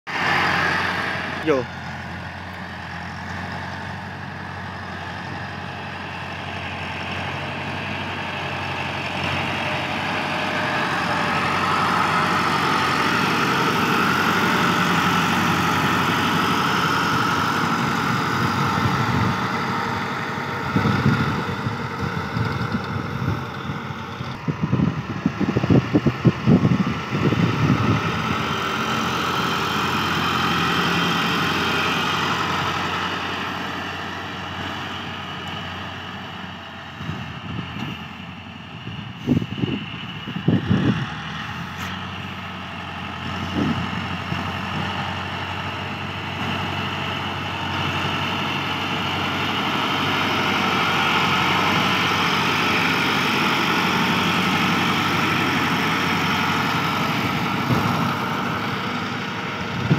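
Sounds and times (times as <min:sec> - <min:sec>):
tractor diesel engine working: 0:00.1 - 0:59.9.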